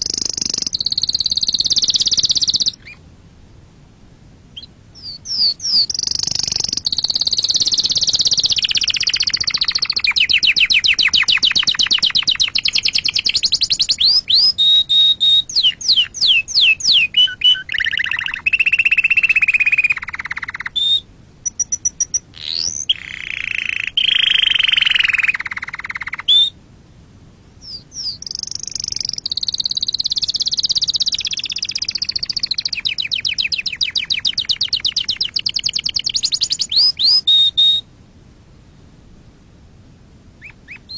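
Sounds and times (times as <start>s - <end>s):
canary singing trills: 0.0s - 3.0s, 4.5s - 26.6s, 27.6s - 37.9s, 40.4s - 40.9s.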